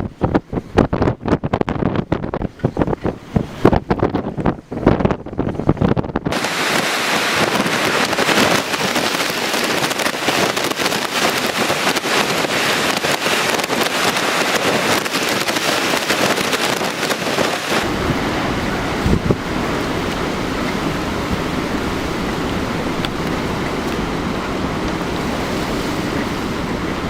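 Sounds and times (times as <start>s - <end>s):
storm wind and driving rain: 0.0s - 27.0s
wind buffeting microphone: 0.0s - 27.0s.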